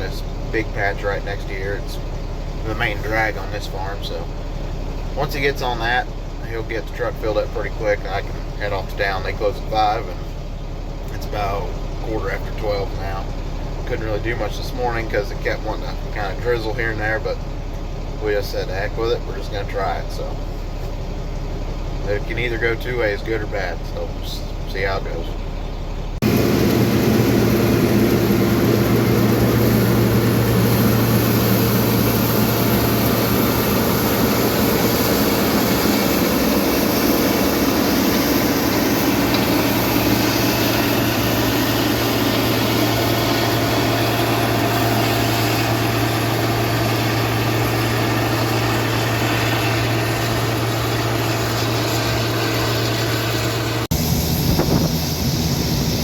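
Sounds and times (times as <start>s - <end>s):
different engine running: 0.0s - 56.0s
heavy diesel machinery humming: 0.0s - 56.0s
wind: 0.0s - 56.0s.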